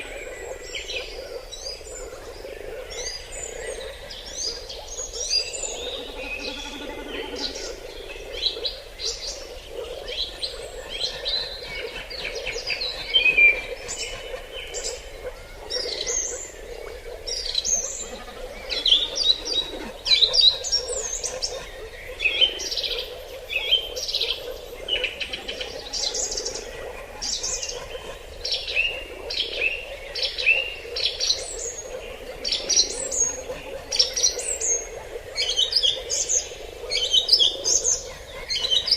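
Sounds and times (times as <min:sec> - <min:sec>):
wild birds chirping and calling: 0:00.0 - 0:38.9.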